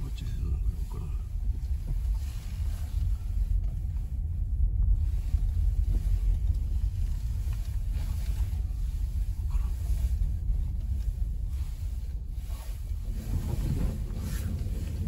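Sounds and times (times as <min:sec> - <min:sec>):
road and tyre noise in cabin: 0:00.0 - 0:15.0.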